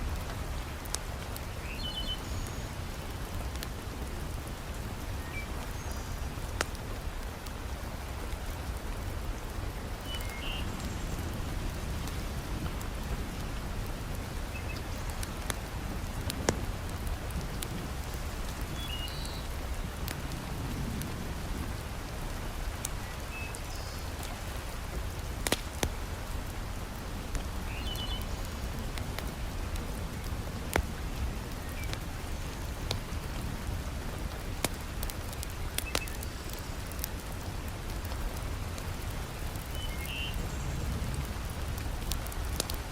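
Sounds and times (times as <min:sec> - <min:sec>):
heavy rain: 0:00.0 - 0:42.9
wood fire crackling: 0:00.0 - 0:42.9.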